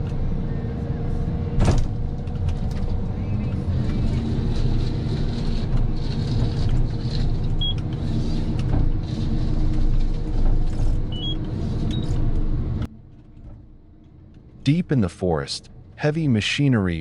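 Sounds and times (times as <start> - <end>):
diesel engine running under load: 0.0 - 15.1.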